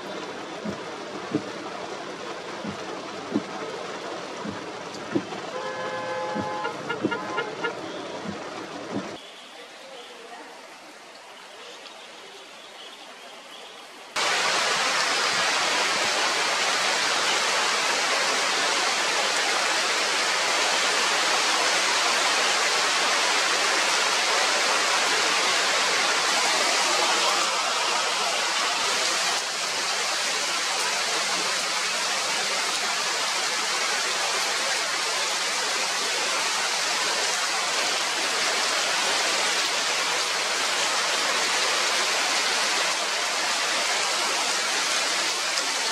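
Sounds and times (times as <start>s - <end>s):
heavy rain on foliage: 0.0s - 45.9s.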